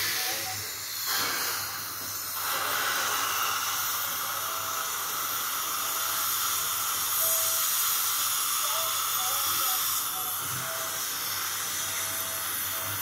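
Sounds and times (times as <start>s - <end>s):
dental suction hissing: 0.0s - 13.0s.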